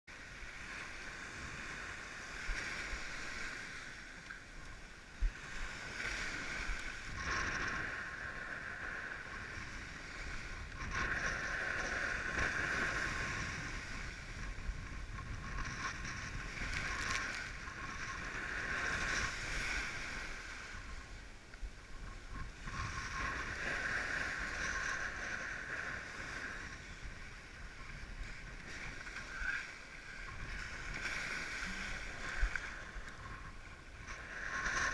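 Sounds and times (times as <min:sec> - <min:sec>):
water rushing against board: 0:05.2 - 0:34.9.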